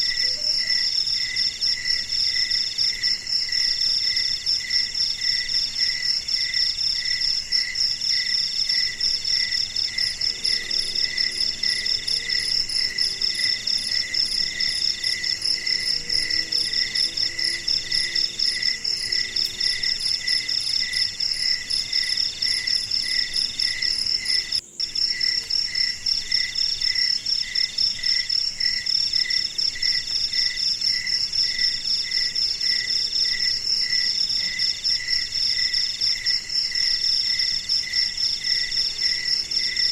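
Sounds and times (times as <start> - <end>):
crickets and insects chirping: 0.0 - 39.9.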